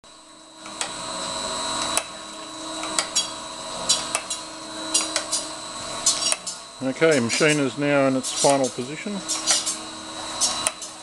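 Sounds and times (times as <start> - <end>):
surface grinder humming: 0.3 - 11.0.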